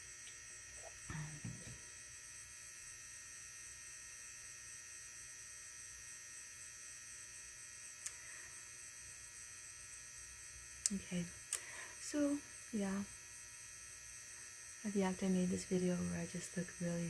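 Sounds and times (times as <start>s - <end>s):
electrical hum: 0.0s - 17.0s
faint high-pitched whine: 0.0s - 17.0s.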